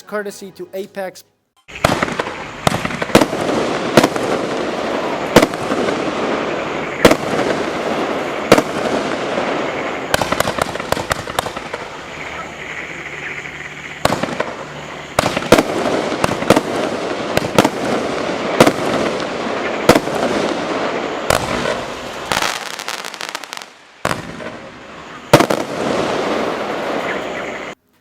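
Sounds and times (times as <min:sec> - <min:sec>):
fireworks loud reports: 0:00.1 - 0:27.8
fireworks crackle: 0:01.7 - 0:28.0.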